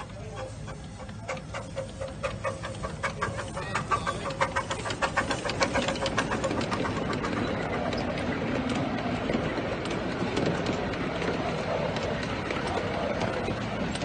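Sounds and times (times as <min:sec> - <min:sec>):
carriages rumbling on track: 0:00.0 - 0:14.0
steam locomotive exhaust beats: 0:00.0 - 0:14.0.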